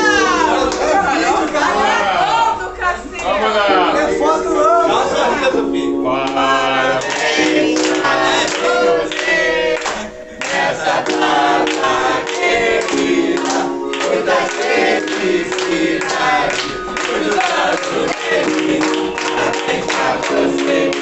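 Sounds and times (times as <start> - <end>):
choir singing with music: 0.0 - 21.0.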